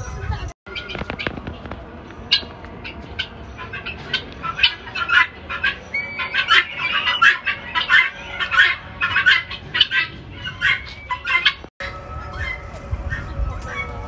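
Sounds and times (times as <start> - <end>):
guineafowl calling: 0.7 - 14.0.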